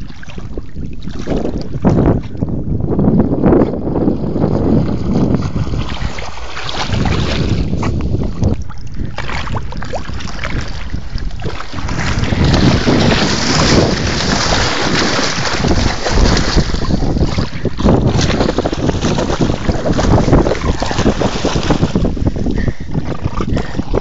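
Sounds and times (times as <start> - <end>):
water splashing and sloshing: 0.0 - 24.0
wind rumbling on microphone: 0.0 - 24.0.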